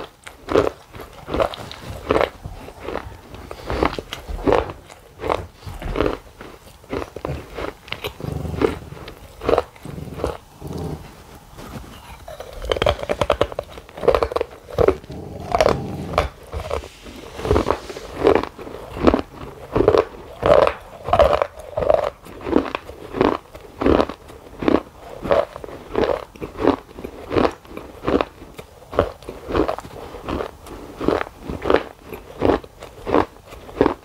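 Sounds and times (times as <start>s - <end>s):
crunchy chocolate bites: 0.0s - 34.0s
mouth-closed chewing: 0.0s - 34.0s.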